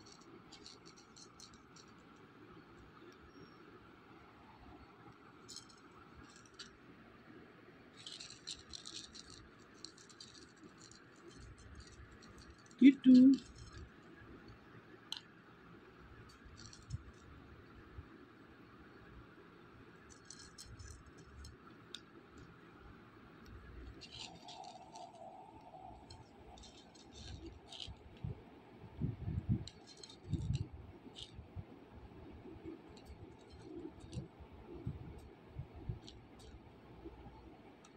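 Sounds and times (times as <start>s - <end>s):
faint steady drone: 0.0s - 37.9s.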